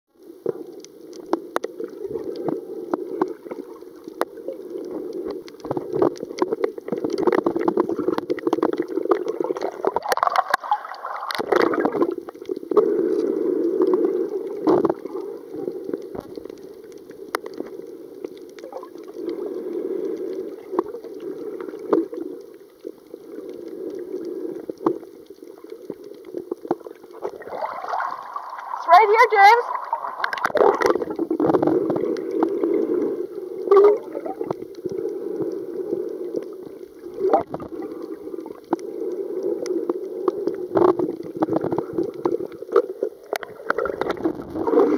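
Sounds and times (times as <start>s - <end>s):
muffled underwater rush: 0.1s - 44.9s
underwater clicks and crackles: 0.2s - 44.9s.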